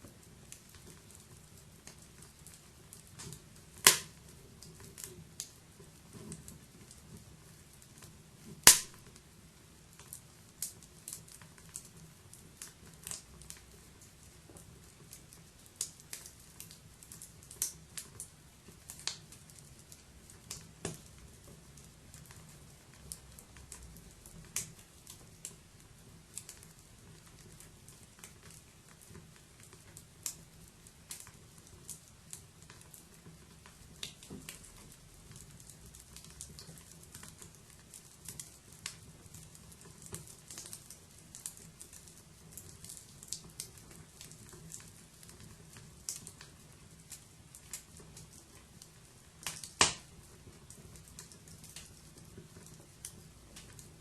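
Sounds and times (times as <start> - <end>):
wood fire crackling and popping: 0.0 - 54.0
low rumble of flames: 0.1 - 54.0.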